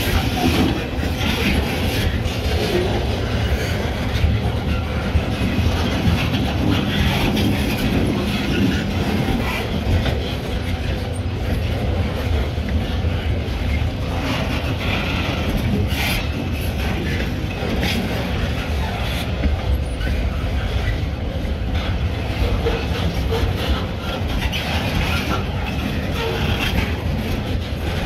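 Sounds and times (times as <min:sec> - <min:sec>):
clicks and knocks of train cars: 0:00.0 - 0:28.0
train wheels rumbling on rail: 0:00.0 - 0:28.0.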